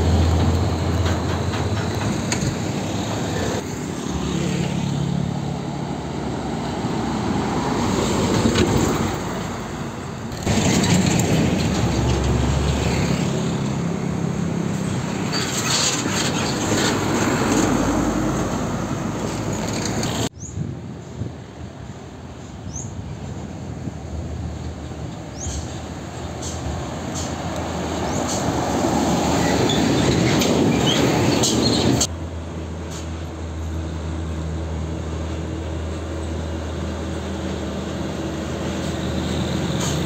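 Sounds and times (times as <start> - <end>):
truck diesel engines driving past: 0.0 - 20.4, 21.0 - 40.0
road traffic noise: 0.0 - 40.0.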